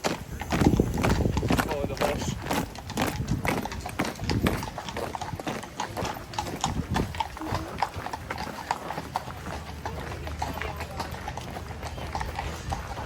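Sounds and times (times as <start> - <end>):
hooves clip-clopping on pavement: 0.0 - 13.0.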